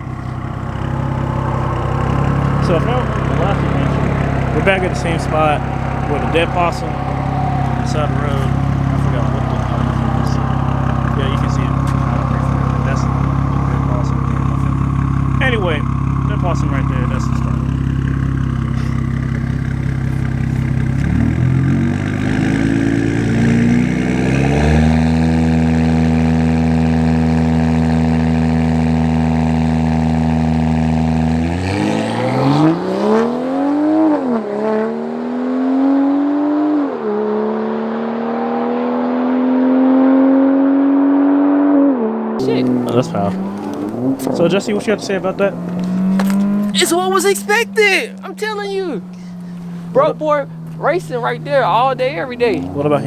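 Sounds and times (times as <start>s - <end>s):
car engine revving and accelerating: 0.0s - 53.0s.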